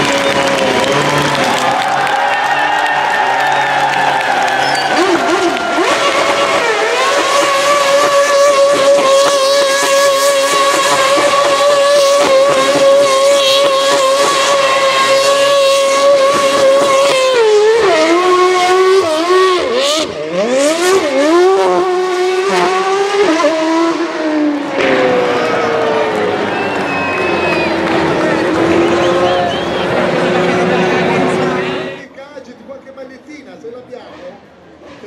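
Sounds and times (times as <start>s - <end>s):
racing car engine revving: 0.0s - 32.0s.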